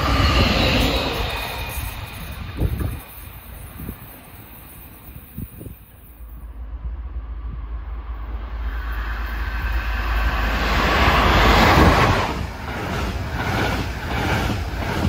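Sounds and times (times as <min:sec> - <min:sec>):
rhythmic clatter of train wheels: 0:00.0 - 0:15.0
wheels rushing on rail: 0:00.0 - 0:15.0.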